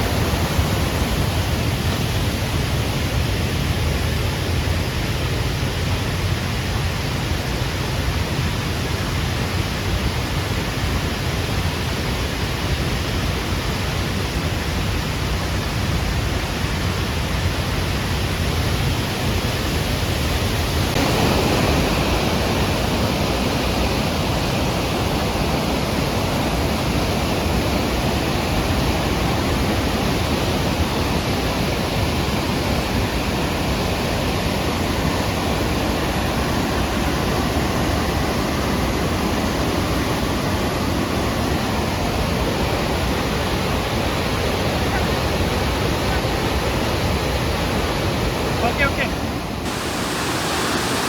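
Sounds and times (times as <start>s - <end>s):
waterfall rushing: 0.0s - 16.0s, 16.7s - 51.0s.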